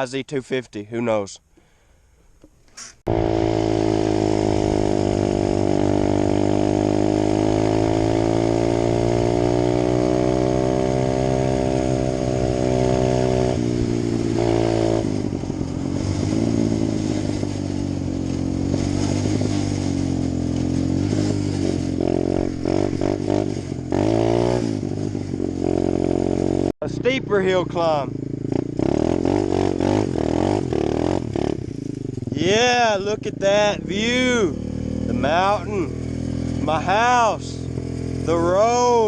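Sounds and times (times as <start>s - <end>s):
dirt bike engine revving: 2.7s - 39.0s.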